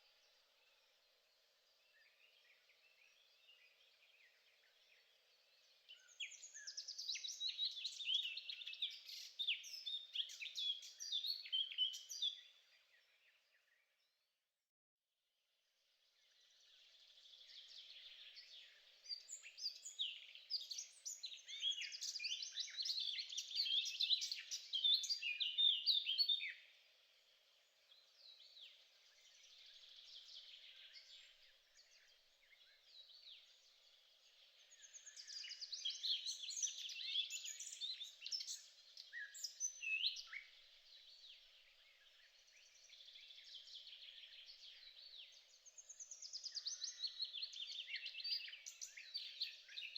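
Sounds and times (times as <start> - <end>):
songbirds chirping and warbling: 0.0 - 14.3, 15.7 - 49.9.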